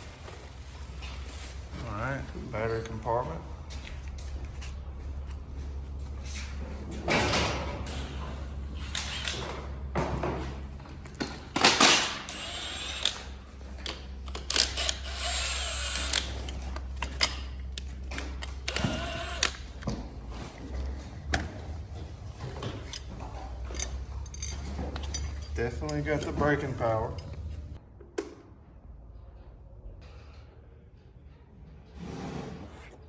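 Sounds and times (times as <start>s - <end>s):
tools and parts clicking and rattling: 0.0s - 5.3s, 5.9s - 28.2s
steady low hum: 0.0s - 27.9s.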